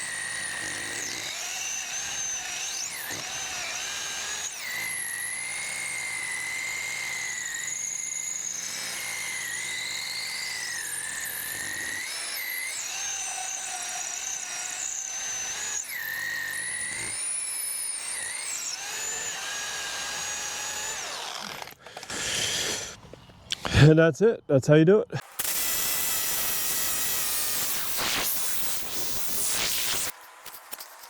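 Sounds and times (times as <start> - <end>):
power drill drilling into concrete: 0.0 - 22.8, 25.2 - 30.6.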